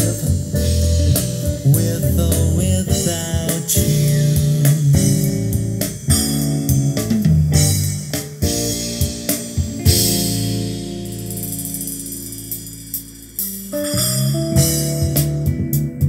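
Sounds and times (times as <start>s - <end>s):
rock music through loudspeakers: 0.0s - 16.0s.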